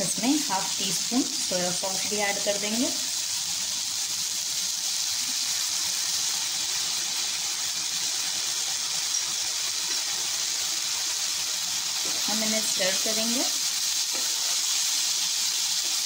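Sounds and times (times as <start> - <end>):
vegetables sizzling in frying pan: 0.0 - 16.0.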